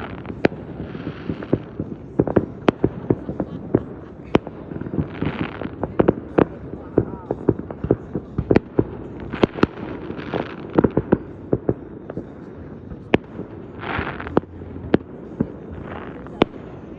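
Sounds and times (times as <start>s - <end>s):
fireworks banging: 0.0s - 16.9s
fireworks crackling: 0.0s - 16.9s.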